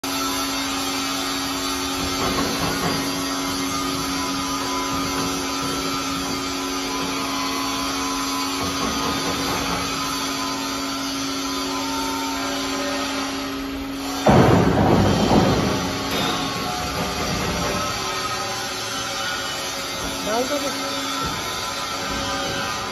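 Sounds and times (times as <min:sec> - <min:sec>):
loud metallic noise: 0:00.0 - 0:22.9
rolling machine humming: 0:00.1 - 0:22.9.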